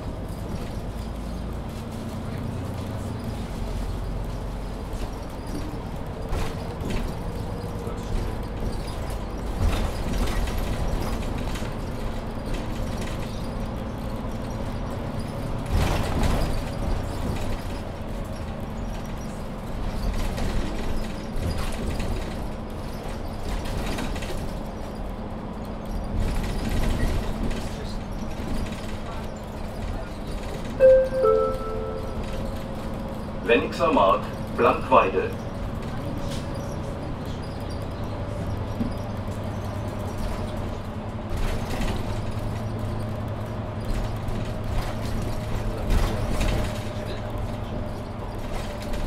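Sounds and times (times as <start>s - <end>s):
body knocks and rattles: 0.0s - 30.8s, 37.5s - 49.0s
bus drivetrain drone: 0.0s - 49.0s
road rumble: 0.0s - 49.0s.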